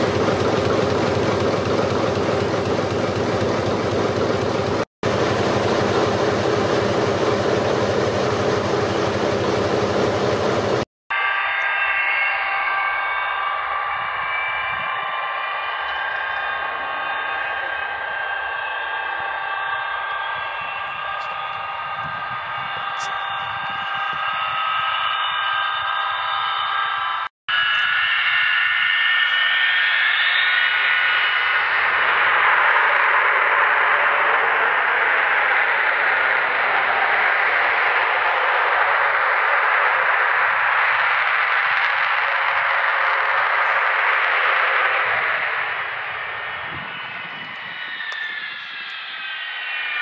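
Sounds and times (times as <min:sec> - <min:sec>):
jet engines whining: 0:00.0 - 0:50.0
machinery running noise: 0:00.0 - 0:50.0.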